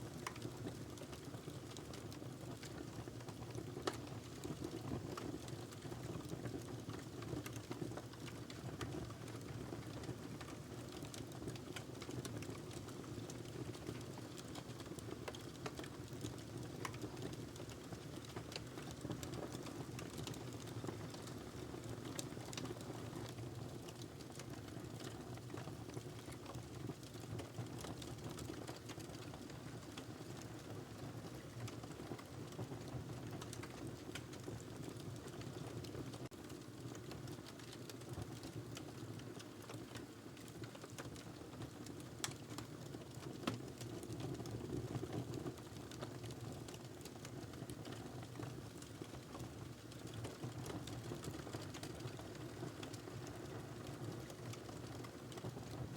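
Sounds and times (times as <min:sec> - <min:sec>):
fire crackling and popping: 0:00.1 - 0:30.7, 0:31.3 - 0:55.9.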